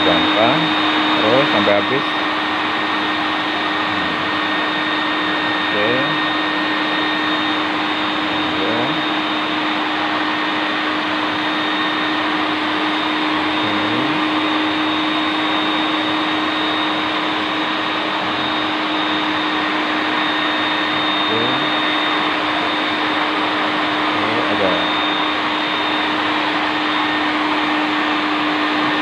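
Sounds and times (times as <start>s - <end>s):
wet vacuum motor whine: 0.0s - 29.0s.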